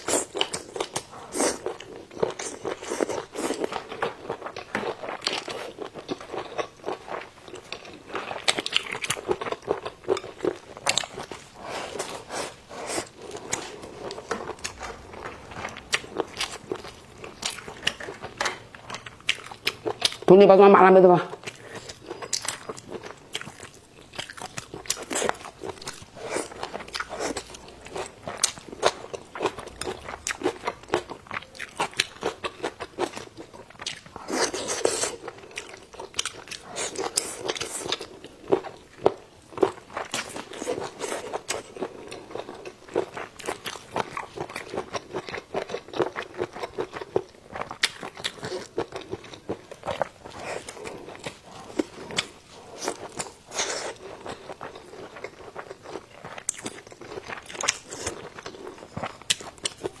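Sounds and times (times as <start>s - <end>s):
person eating crunchy food: 0.0s - 20.3s, 21.3s - 60.0s.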